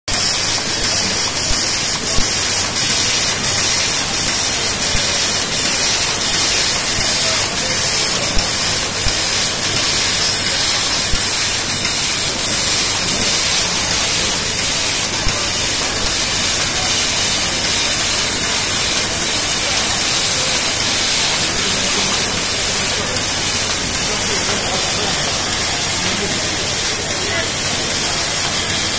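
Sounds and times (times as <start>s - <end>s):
loud hiss of gas jet: 0.1s - 28.9s.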